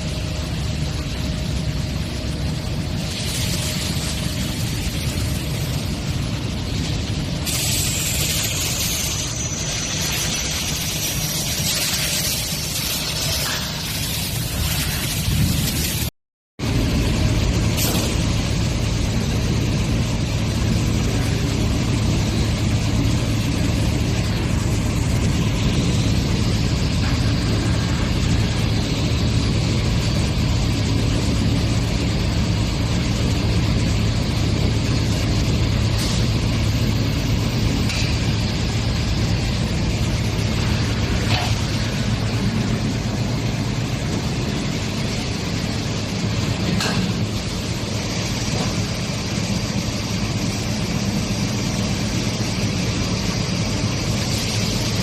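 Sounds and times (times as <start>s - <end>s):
factory machinery hum and hiss: 0.0s - 55.0s.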